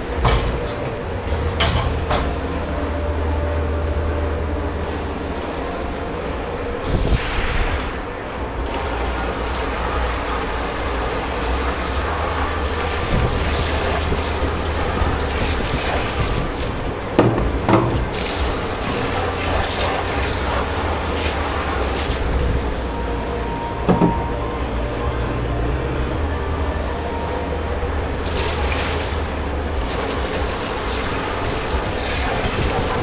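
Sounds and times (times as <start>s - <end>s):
low machine drone: 0.0s - 33.0s
rushing water: 0.0s - 33.0s.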